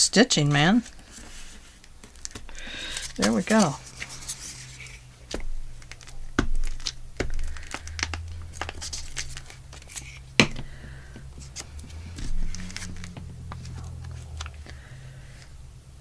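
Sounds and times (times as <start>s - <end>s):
paper crinkling and rustling: 0.4s - 15.5s.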